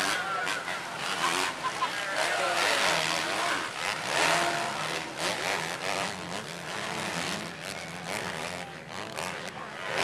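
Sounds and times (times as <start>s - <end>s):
dirt bike engines racing: 0.0s - 10.0s.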